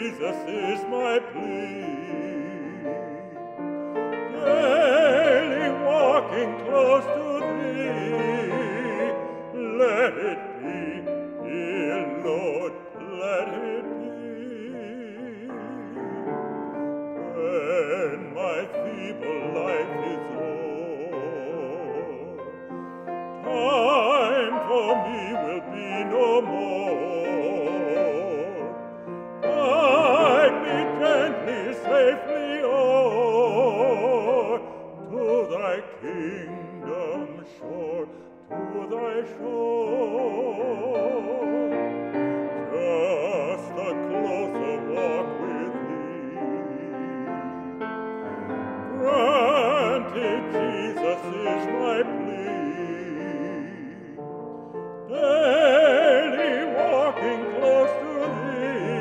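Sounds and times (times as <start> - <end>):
grand piano: 0.0 - 59.0
man singing operatic hymn: 0.0 - 59.0.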